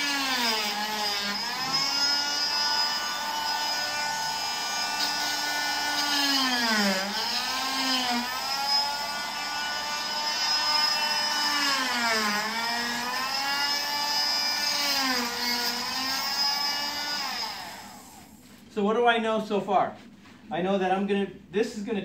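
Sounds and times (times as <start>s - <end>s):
electric saw whining: 0.0s - 18.4s.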